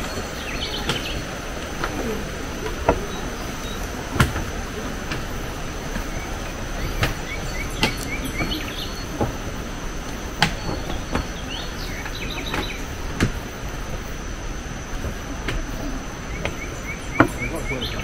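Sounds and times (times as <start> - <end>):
footsteps on wooden boardwalk: 0.0 - 18.0
high insect drone: 0.0 - 18.0.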